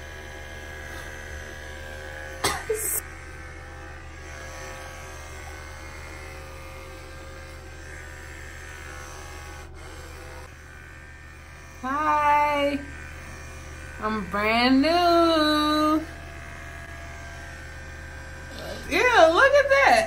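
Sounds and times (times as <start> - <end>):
electric hair clippers buzzing: 0.0 - 20.0.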